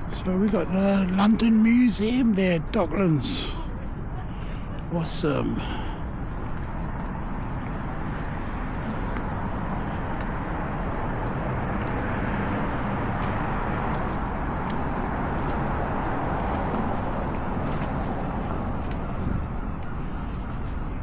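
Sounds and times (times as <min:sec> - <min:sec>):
city traffic hum: 0:00.0 - 0:21.0.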